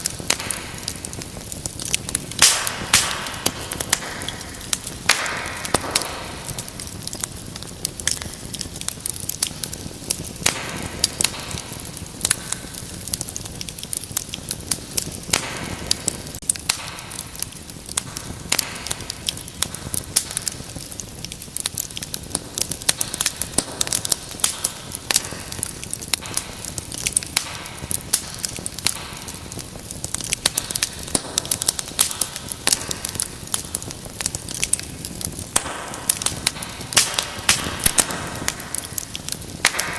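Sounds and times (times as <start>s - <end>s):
flames hissing: 0.0s - 39.9s
logs crackling and popping: 0.0s - 39.9s.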